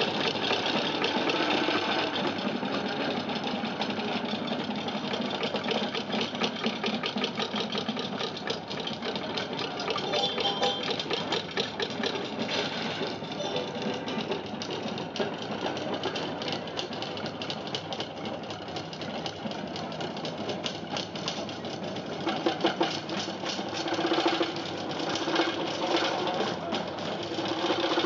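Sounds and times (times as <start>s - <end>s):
slit drums rolling rapidly: 0.0s - 28.0s.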